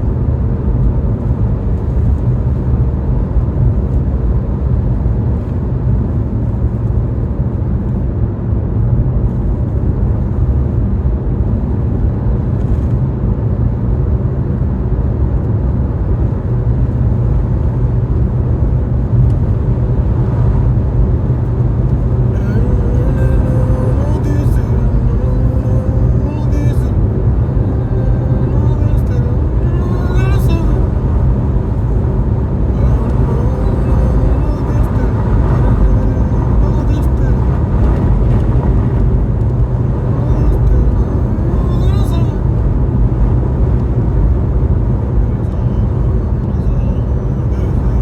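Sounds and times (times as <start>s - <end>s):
car driving rumble: 0.0s - 48.0s.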